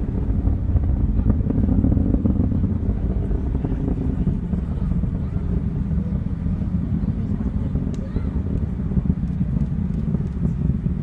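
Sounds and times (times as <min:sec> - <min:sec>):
distant rocket engine rumble: 0:00.0 - 0:11.0.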